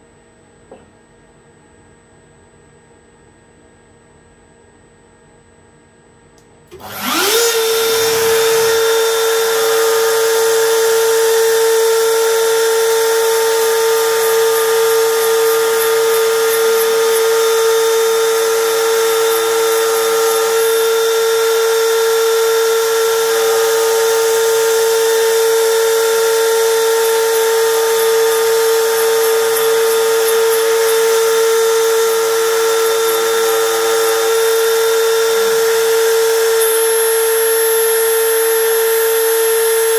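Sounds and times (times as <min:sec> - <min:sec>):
milling spindle whining: 0:06.8 - 0:39.9.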